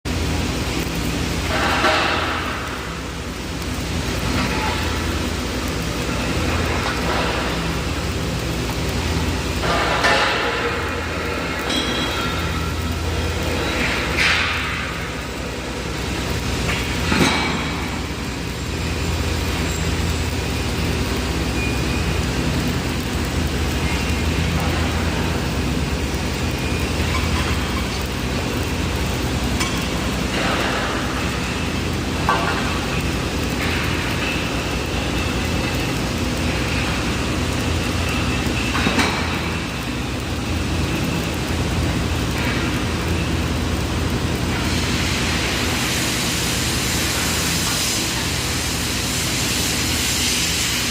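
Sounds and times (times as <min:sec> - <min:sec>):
arc welding crackle: 0:00.1 - 0:50.9.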